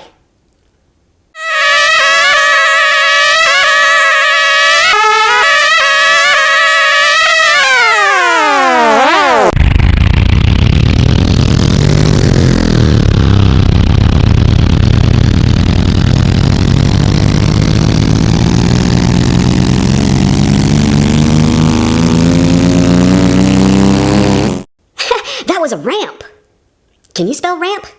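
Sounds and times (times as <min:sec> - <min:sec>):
truck engine revving: 0:01.4 - 0:24.7.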